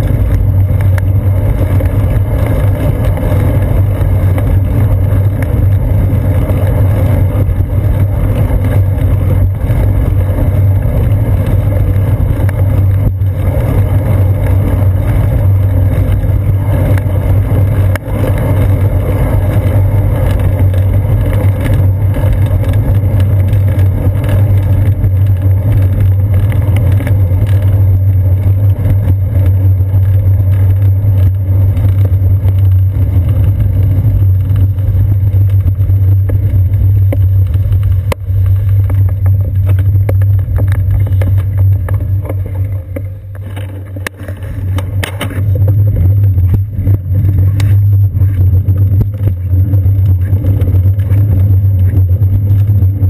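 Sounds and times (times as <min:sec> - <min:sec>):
wind and road rumble: 0:00.0 - 0:53.0.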